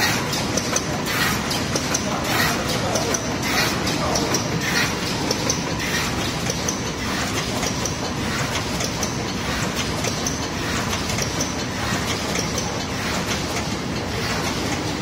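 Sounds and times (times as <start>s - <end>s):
steady machine noise: 0.0s - 15.0s.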